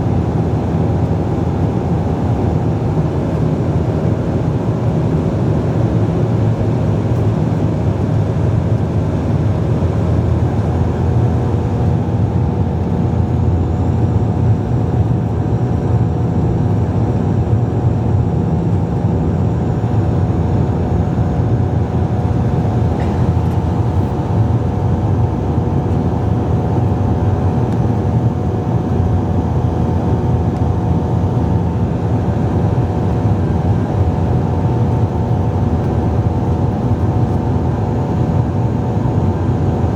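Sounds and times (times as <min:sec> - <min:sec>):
airliner engine and propeller drone: 0:00.0 - 0:39.9.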